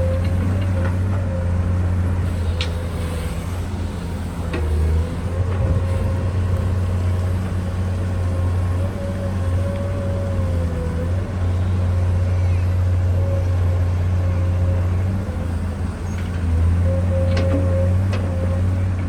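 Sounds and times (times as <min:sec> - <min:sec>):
excavator engine drone: 0:00.0 - 0:19.0.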